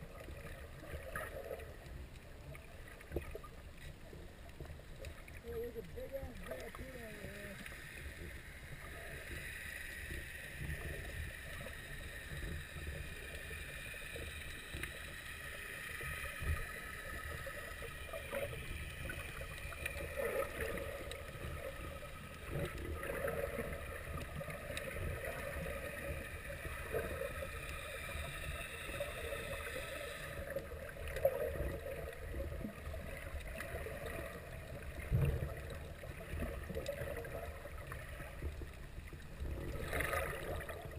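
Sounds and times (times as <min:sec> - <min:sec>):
low underwater rumbling: 0:00.0 - 0:40.9
muffled underwater wash: 0:00.0 - 0:40.9.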